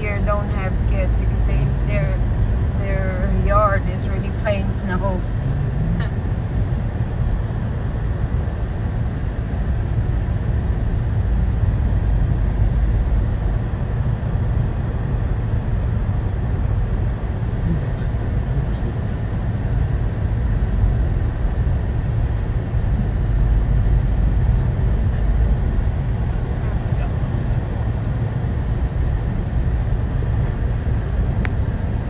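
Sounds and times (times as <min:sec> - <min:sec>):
car driving on snow: 0:00.0 - 0:32.0.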